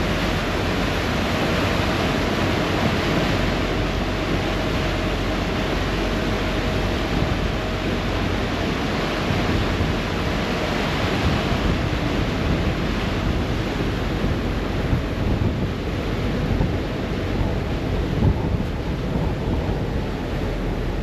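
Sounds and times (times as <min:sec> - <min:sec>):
churning wake water: 0:00.0 - 0:21.0
low engine drone: 0:00.0 - 0:21.0
wind on microphone: 0:00.0 - 0:21.0.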